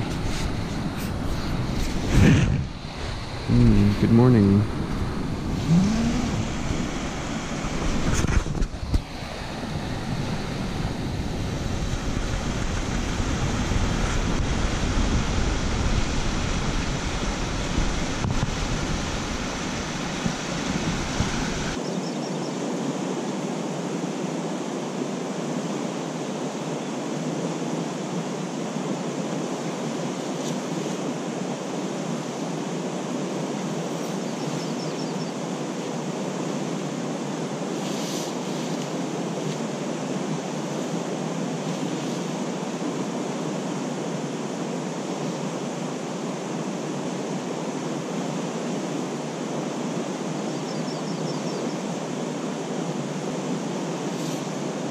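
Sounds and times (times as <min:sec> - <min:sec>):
rushing white noise: 0:00.0 - 0:54.9.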